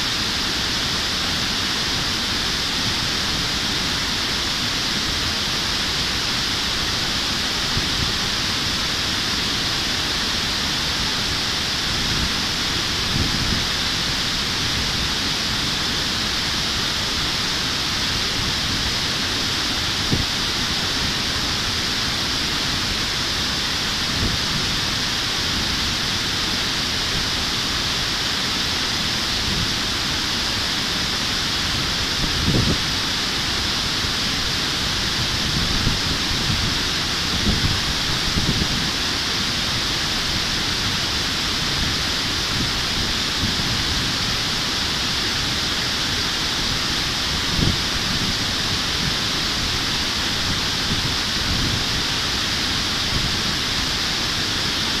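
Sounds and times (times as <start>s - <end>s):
river water rushing over weir: 0.0s - 55.0s.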